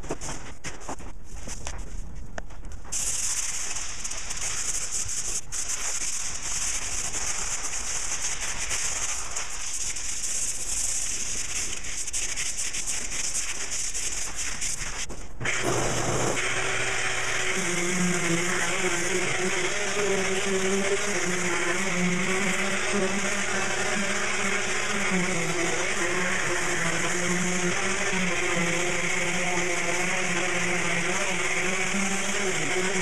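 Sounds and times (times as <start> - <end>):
sandpaper scratching: 2.9 - 16.5, 17.4 - 33.0.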